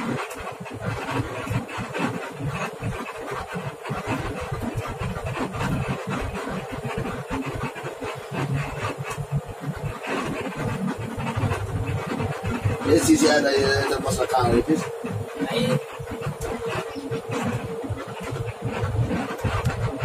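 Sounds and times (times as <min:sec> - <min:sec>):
bus engine and road noise: 0:00.0 - 0:20.0
small rattles and knocks: 0:00.0 - 0:20.0.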